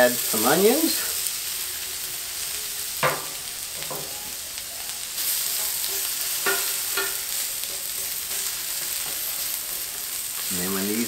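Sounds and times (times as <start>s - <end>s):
potatoes sizzling on a griddle: 0.0s - 11.0s.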